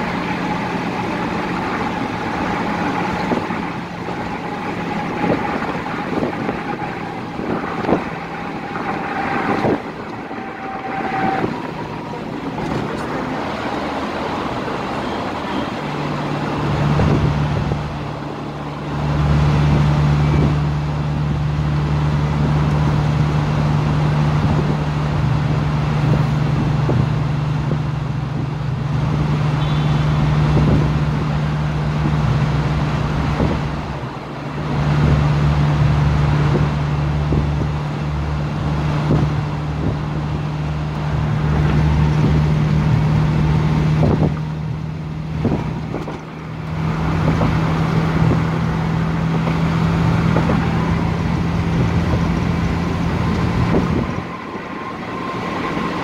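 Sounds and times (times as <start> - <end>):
car engine drone: 0.0 - 56.0
tyre road noise: 0.0 - 56.0.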